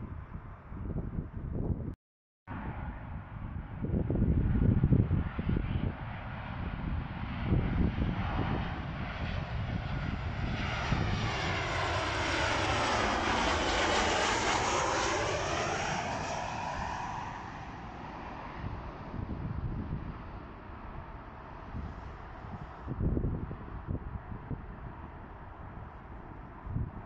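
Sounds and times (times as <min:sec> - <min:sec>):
jet airliner passing overhead: 0:02.5 - 0:27.0.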